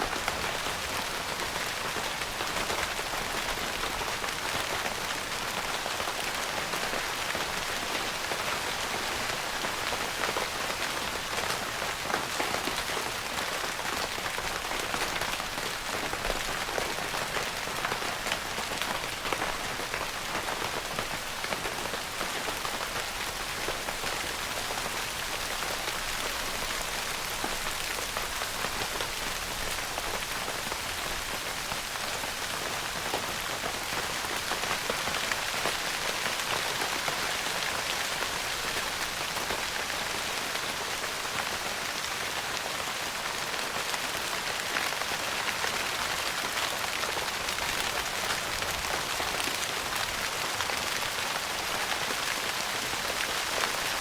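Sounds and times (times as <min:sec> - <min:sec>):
rain pattering on tent fabric: 0:00.0 - 0:54.0.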